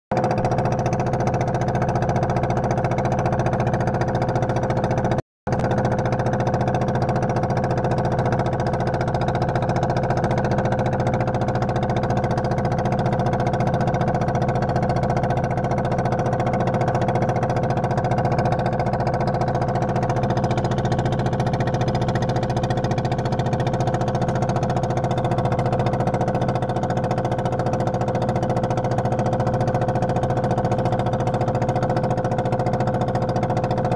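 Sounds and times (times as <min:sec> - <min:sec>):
engine hum with held tones: 0:00.1 - 0:33.9.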